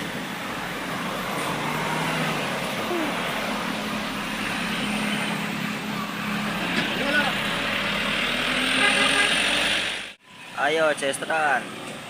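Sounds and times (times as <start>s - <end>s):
bus diesel engine humming: 0.0s - 12.0s
road noise: 0.0s - 12.0s.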